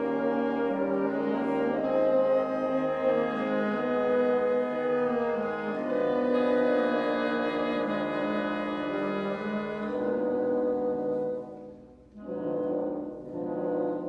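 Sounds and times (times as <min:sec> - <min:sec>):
classical ensemble with french horns: 0:00.0 - 0:14.0.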